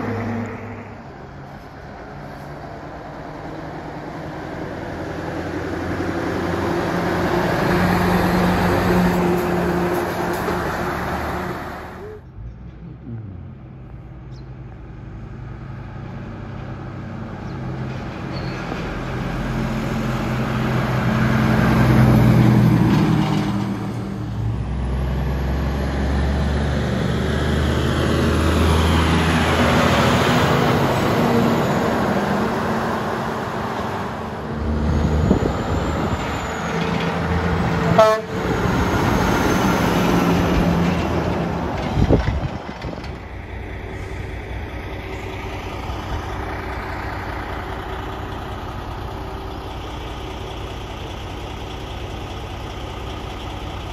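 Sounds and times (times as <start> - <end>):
diesel trucks passing: 0.0 - 53.9.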